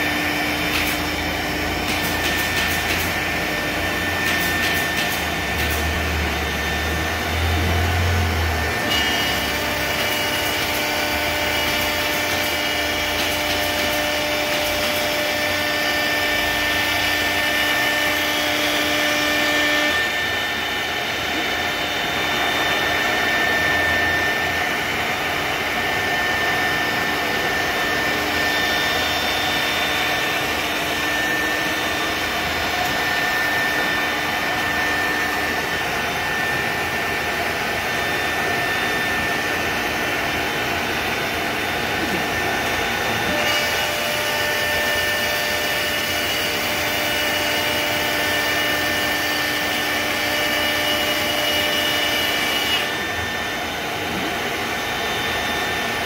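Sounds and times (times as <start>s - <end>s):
machine roar: 0.0s - 47.2s
router spindle cutting plastic: 0.0s - 56.0s.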